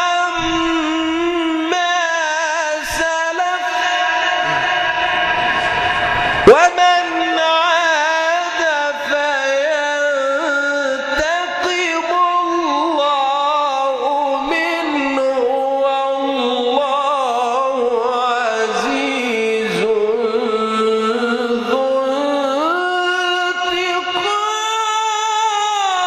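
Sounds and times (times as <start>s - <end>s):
man chanting recitation: 0.0s - 5.1s, 6.4s - 26.0s.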